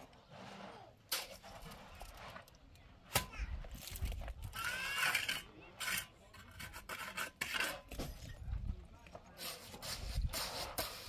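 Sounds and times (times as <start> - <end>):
trowel scraping cement: 0.0 - 11.0.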